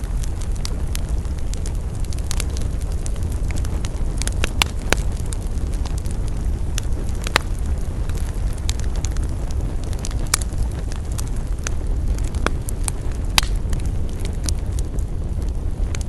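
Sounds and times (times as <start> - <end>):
campfire low rumble: 0.0 - 16.0
fire crackles and pops: 0.0 - 16.0.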